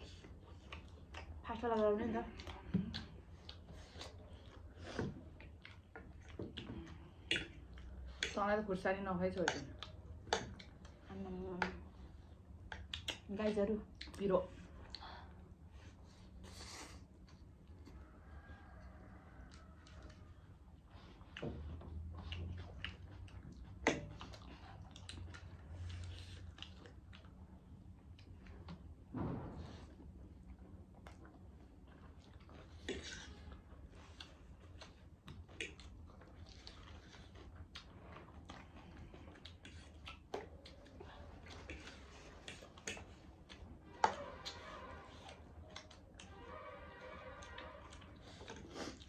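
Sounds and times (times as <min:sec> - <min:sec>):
chewing noodles: 0:00.0 - 0:29.0, 0:30.2 - 0:49.0.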